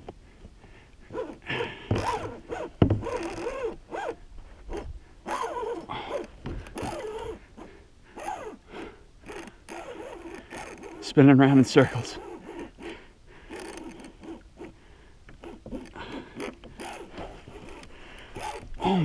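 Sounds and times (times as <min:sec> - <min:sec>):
fishing reel drag zipping: 0:01.1 - 0:19.0.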